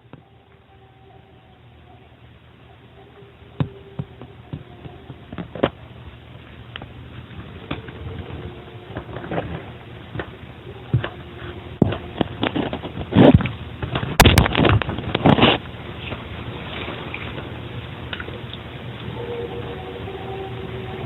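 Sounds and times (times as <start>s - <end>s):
faint hum: 0.0s - 21.0s
steady hiss: 0.0s - 21.0s.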